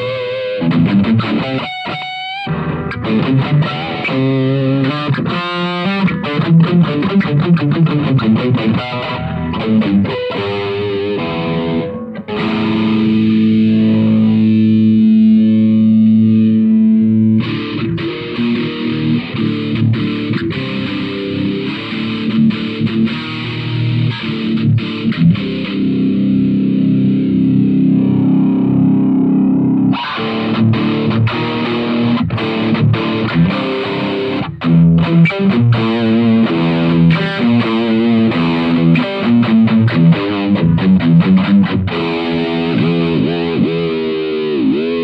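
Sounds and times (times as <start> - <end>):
distorted electric guitar: 0.0 - 45.0.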